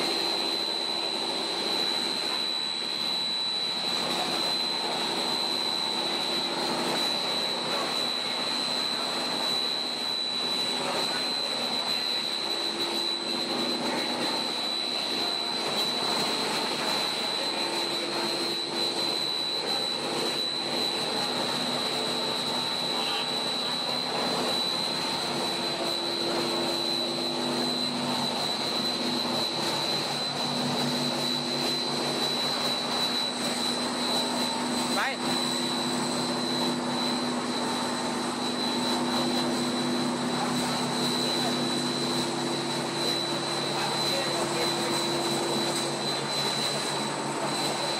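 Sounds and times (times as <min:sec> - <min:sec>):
high-pitched machine whine: 0:00.0 - 0:47.9
machine noise: 0:00.0 - 0:47.9.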